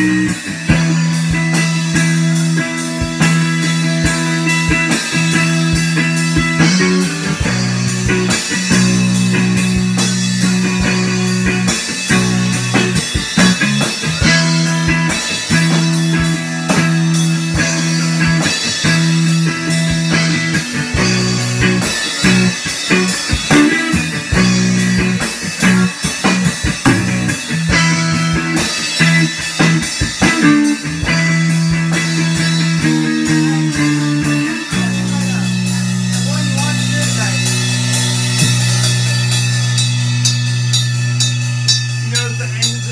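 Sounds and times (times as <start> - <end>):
drum and cymbal hits: 0.0 - 42.9
rock guitar: 0.0 - 42.9.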